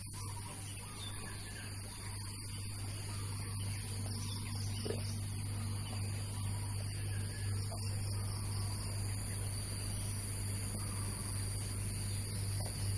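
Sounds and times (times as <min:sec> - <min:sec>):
high-pitched insect trilling: 0:00.0 - 0:12.9
low steady hum: 0:00.0 - 0:12.9.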